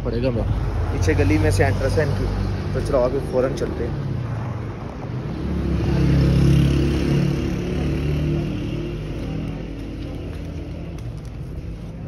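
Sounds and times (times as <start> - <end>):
street hum: 0.0 - 12.0
vehicle engine passing: 0.7 - 12.0.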